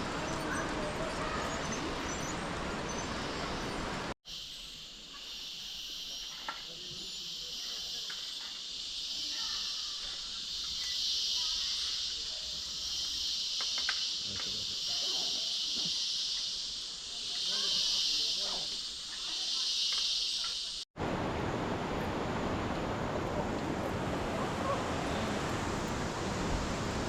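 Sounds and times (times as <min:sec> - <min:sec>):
insects chorus: 0:00.0 - 0:22.5.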